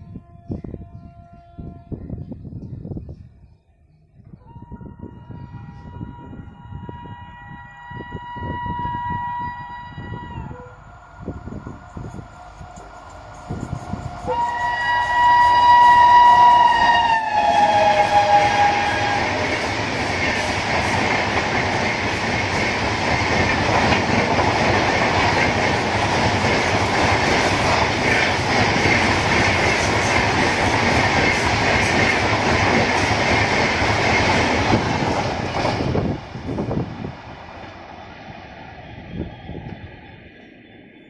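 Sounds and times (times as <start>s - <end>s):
train wheels rumbling on track: 5.9s - 41.0s.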